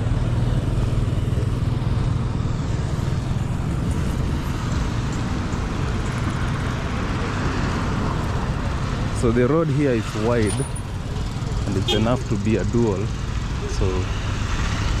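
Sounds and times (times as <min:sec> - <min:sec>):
tyre and road noise: 0:00.0 - 0:15.0
vehicle engine hum: 0:00.0 - 0:15.0.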